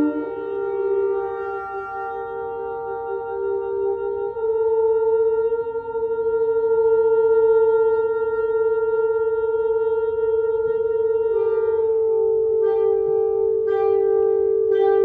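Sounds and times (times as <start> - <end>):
saxophones and french horn: 0.0 - 15.0.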